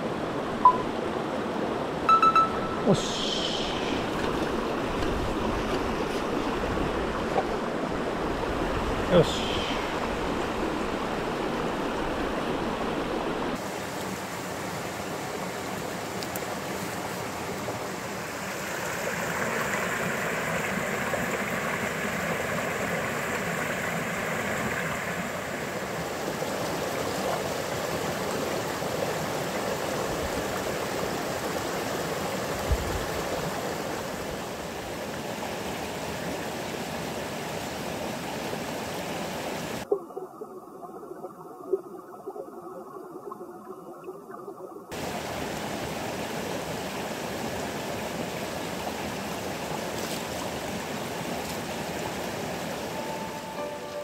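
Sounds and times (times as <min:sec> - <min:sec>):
creek rushing over rocks: 0:02.9 - 0:39.8, 0:44.9 - 0:53.9.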